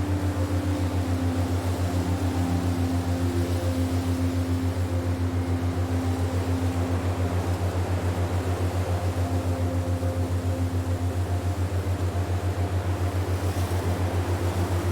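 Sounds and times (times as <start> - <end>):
low pulsing drone: 0.0 - 14.9
soft sustained higher tones: 0.0 - 14.9.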